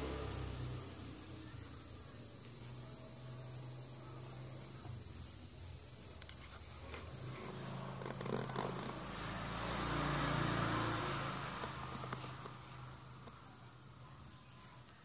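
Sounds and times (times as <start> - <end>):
vehicle engine hum passing: 0.0 - 5.2, 6.6 - 14.2.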